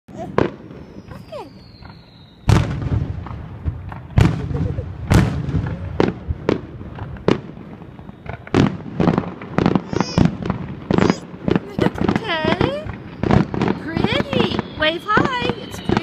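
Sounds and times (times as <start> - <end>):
fireworks bangs: 0.1 - 16.0.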